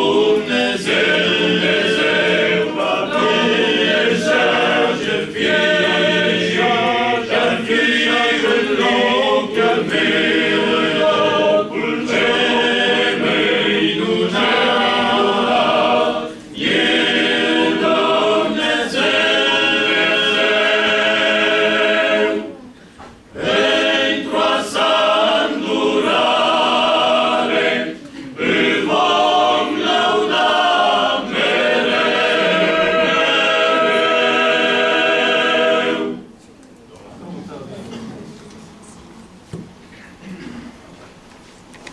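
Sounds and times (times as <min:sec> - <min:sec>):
men's choir singing a cappella: 0:00.0 - 0:22.7, 0:23.3 - 0:36.4.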